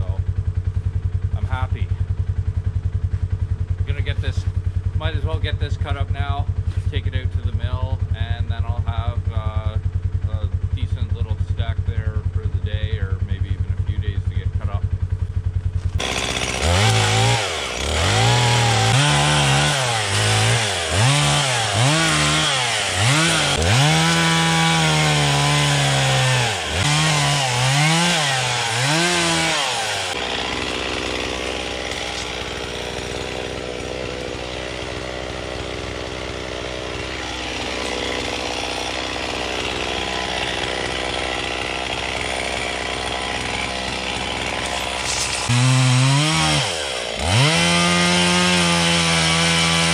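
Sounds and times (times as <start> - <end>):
chainsaw revving and cutting wood: 0.0 - 49.9.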